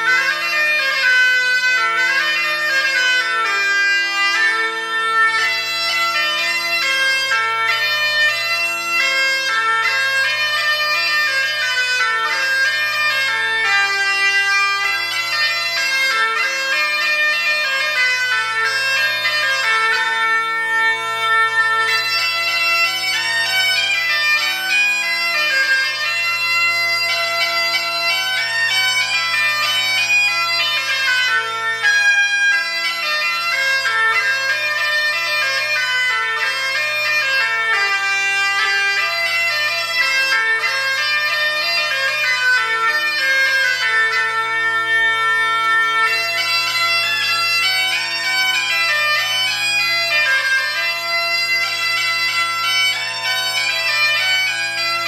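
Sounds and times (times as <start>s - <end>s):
bagpipe melody over drone: 0.0s - 55.0s.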